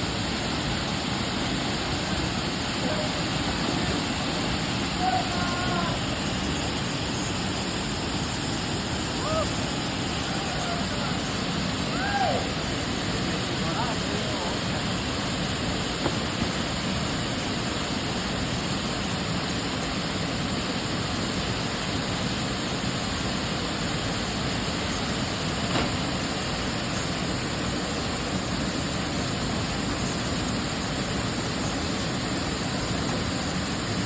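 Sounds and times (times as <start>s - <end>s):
falling water rushing: 0.0s - 34.0s.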